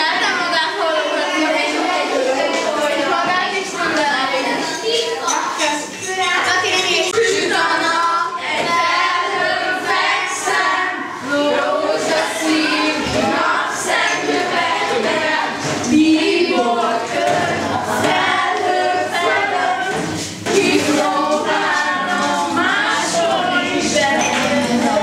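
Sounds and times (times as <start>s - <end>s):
children singing together: 0.0s - 25.0s.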